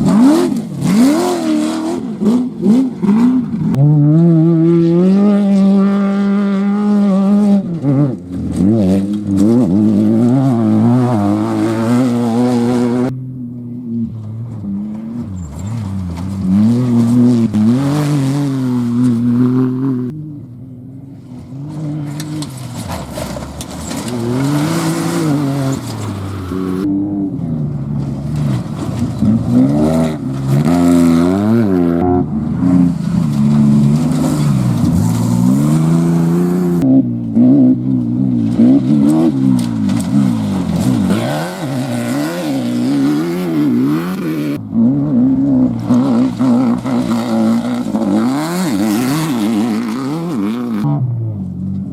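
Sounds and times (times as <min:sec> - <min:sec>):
race vehicle engines revving: 0:00.0 - 0:51.9.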